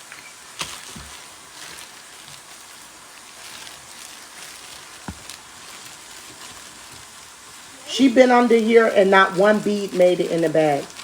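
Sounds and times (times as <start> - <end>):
bacon sizzling in a frying pan: 0.0 - 11.0.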